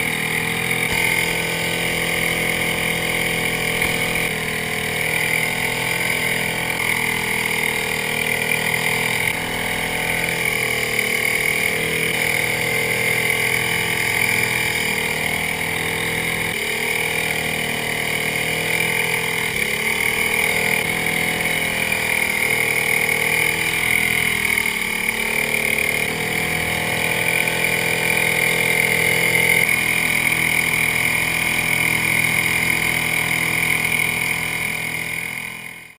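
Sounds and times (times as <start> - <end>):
small boat motor running: 0.0 - 35.9.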